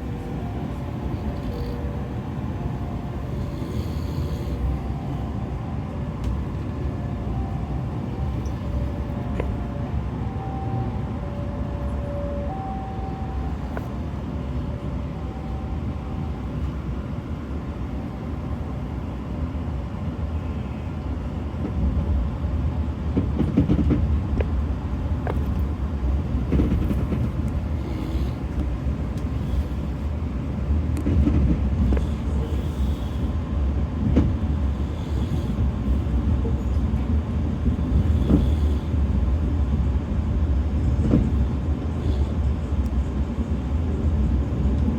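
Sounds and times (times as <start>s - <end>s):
train low rumble: 0.0s - 44.9s.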